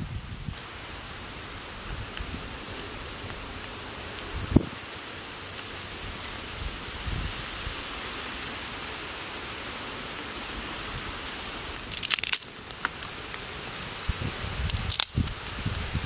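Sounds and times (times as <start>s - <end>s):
steady outdoor hiss: 0.0s - 16.0s
dry sticks crackling: 0.5s - 16.0s.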